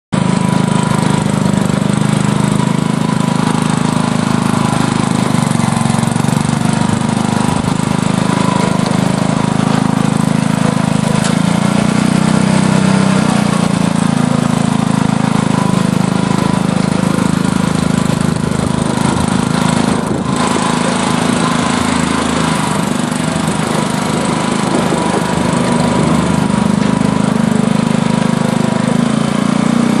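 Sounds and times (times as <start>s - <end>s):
small engine running: 0.2s - 30.0s.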